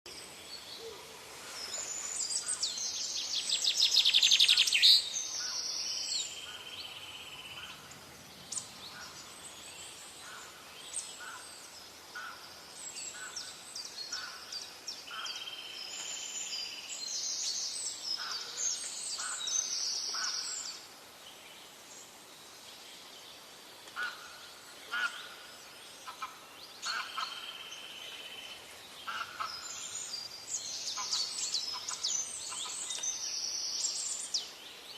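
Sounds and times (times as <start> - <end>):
birds chirping and calling: 0.1 - 20.9, 23.4 - 34.9.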